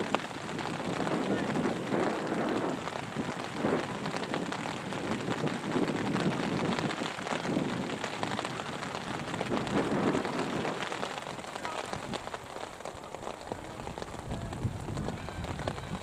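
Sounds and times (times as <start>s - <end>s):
raindrops tapping close: 0.0s - 16.0s
steady rain falling: 0.0s - 16.0s.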